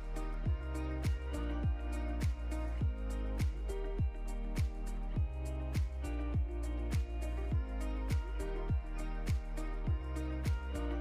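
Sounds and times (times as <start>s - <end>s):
deep kick drum: 0.0s - 10.8s
background music with steady beat: 0.0s - 11.0s.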